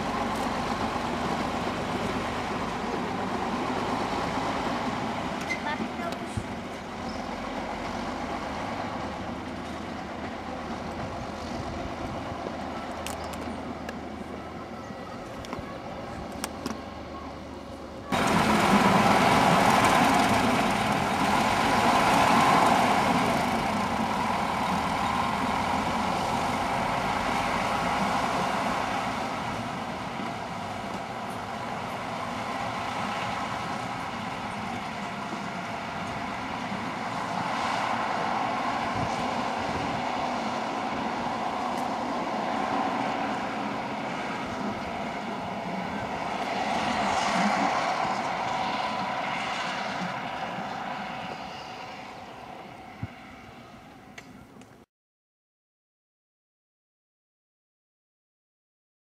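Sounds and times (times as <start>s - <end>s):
railcar engine running: 0.0s - 54.8s.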